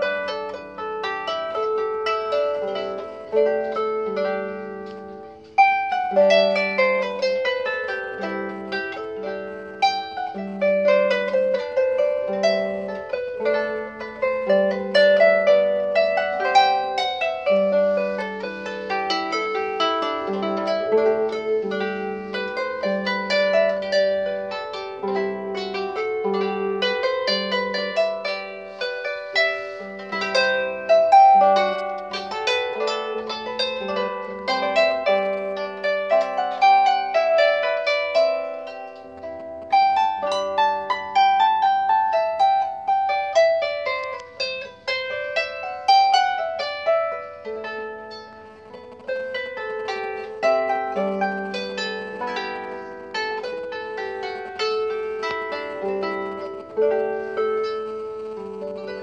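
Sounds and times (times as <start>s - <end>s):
harp playing melody: 0.0s - 59.0s.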